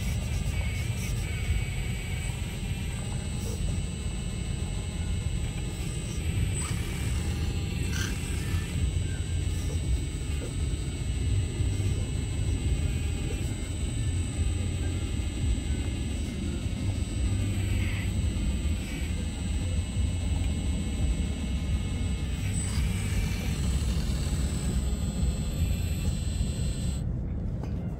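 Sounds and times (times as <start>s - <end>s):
model excavator motors rumbling: 0.0s - 27.1s
thin high whine: 0.0s - 27.9s.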